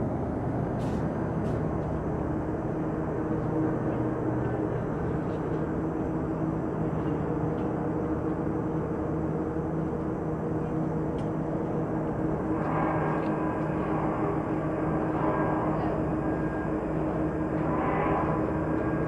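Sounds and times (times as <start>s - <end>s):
distant heavy engines droning: 0.0s - 19.0s
low hum: 0.0s - 19.0s.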